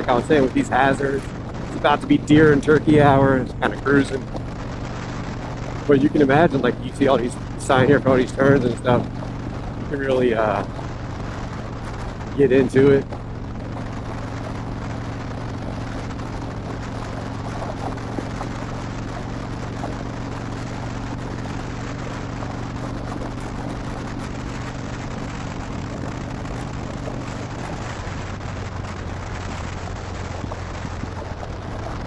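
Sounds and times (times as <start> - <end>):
motorcycle engine cruising: 0.0 - 32.0
wind rushing over microphone: 0.0 - 32.0.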